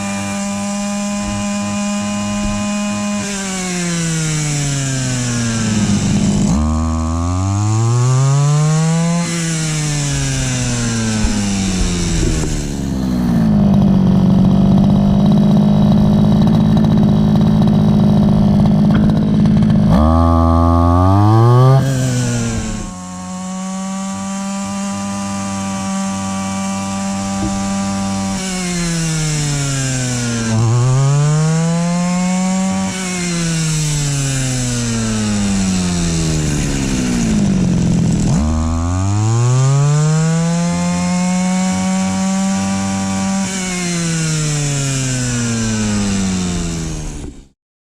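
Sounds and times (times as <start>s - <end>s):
brush cutter engine revving: 0.0s - 47.6s.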